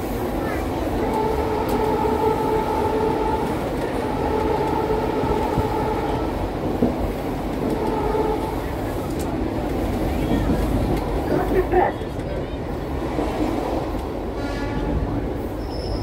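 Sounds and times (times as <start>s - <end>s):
diesel locomotive engines running: 0.0s - 16.0s
wheels rumbling on rails: 0.0s - 16.0s.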